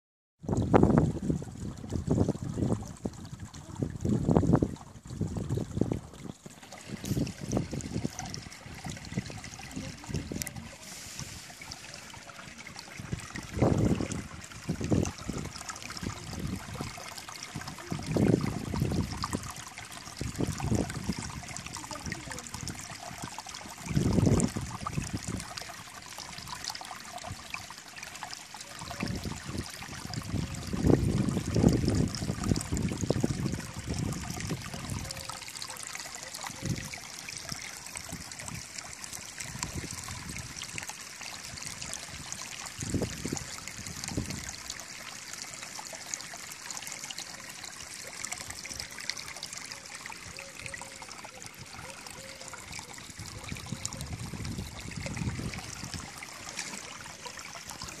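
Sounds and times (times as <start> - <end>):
low water rushes: 0.4 - 58.0
water trickling over rocks: 0.4 - 58.0.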